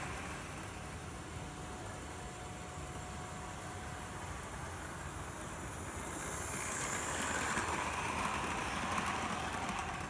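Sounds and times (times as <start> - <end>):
model train motor whirring: 0.0 - 10.0.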